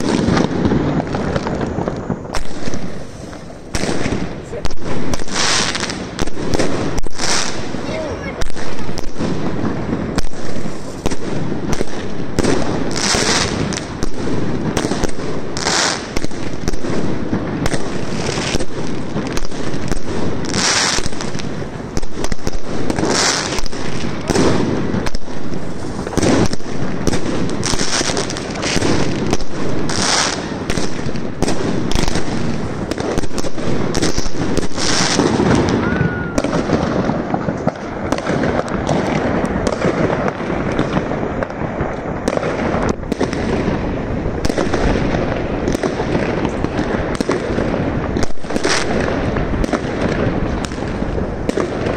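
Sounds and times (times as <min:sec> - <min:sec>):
fireworks bangs: 0:00.0 - 0:51.9
fireworks hissing bursts: 0:00.0 - 0:51.9.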